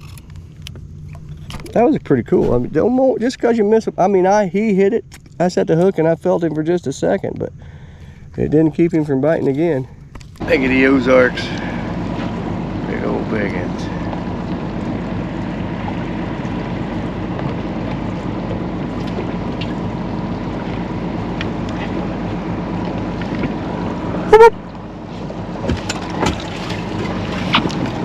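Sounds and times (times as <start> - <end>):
boat motor running: 0.0 - 28.0.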